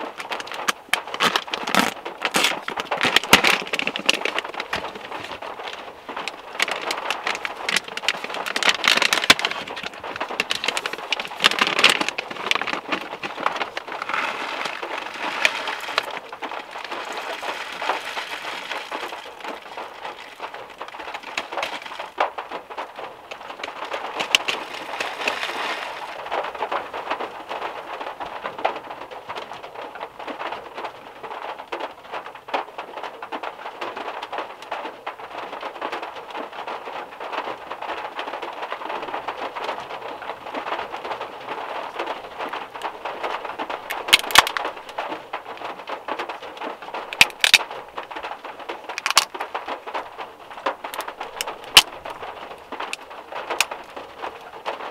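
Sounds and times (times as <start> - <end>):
heavy rain on metal roof: 0.0 - 54.9.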